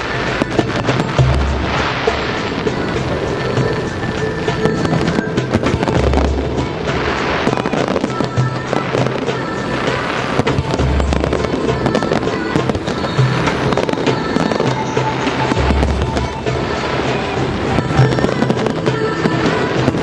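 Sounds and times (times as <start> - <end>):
music playing: 0.0 - 20.0.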